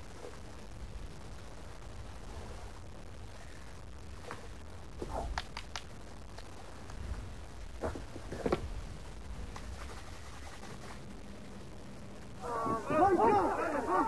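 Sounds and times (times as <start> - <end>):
rustles: 0.0 - 11.8
low steady rumble: 0.0 - 14.0.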